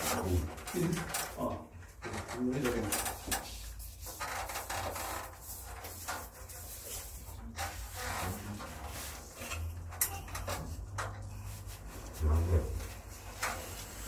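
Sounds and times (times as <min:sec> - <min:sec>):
hand tool scraping wallpaper: 0:00.0 - 0:14.0.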